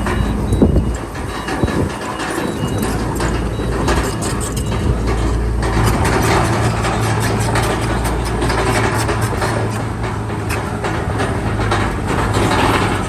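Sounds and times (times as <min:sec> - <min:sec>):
bulldozer diesel engine: 0:00.0 - 0:13.0
metallic track rattle: 0:00.0 - 0:13.0.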